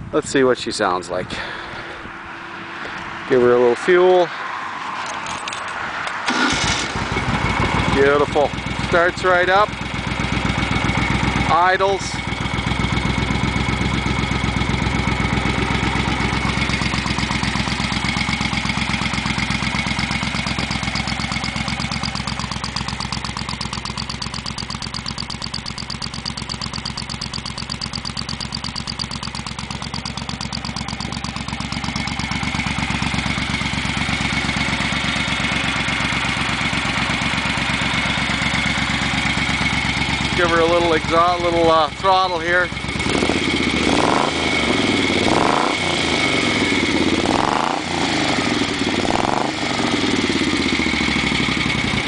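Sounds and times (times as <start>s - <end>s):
motorcycle engine idling: 6.2s - 52.0s.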